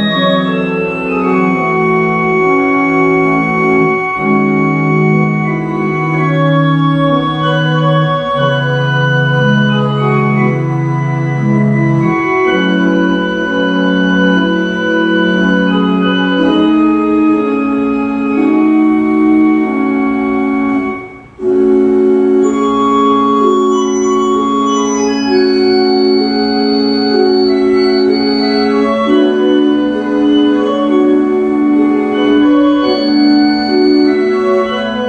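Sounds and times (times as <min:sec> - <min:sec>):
church organ chords: 0:00.0 - 0:35.0.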